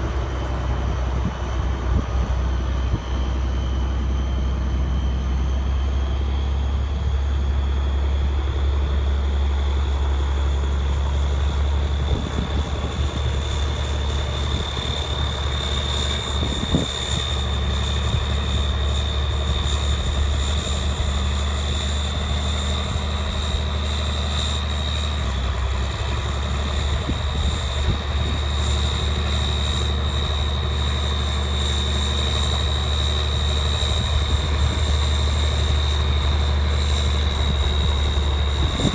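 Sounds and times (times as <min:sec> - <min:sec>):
high whine: 0:00.0 - 0:38.9
tractor diesel engine running: 0:00.0 - 0:38.9.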